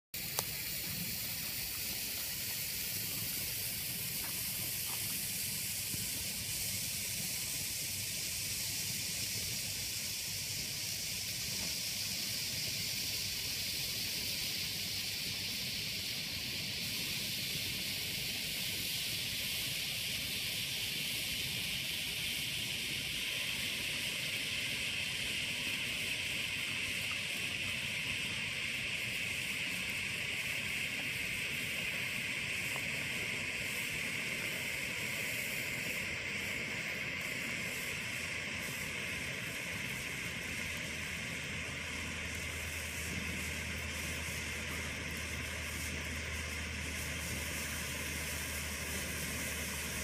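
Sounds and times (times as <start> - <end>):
flare burning with hiss: 0.2 - 50.0.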